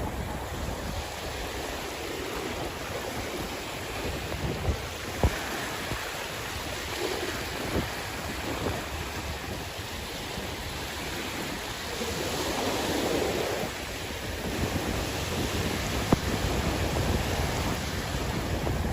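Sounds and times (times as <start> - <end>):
sea waves washing on shore: 0.0 - 18.9.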